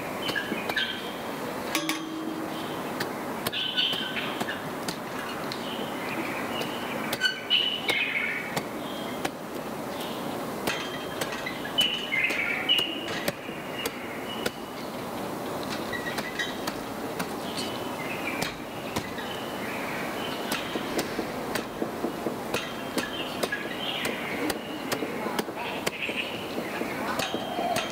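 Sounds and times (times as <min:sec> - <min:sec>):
birds chirping: 0:00.0 - 0:27.9
sticks beating quilts: 0:02.9 - 0:05.6, 0:06.5 - 0:19.6, 0:20.3 - 0:27.9.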